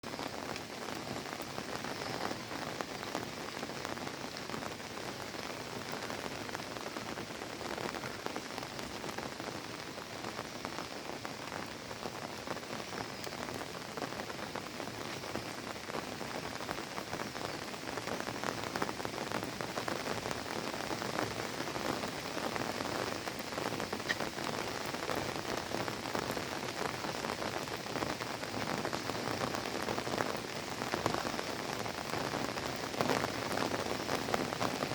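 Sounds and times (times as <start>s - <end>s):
rain pattering: 0.0s - 34.9s.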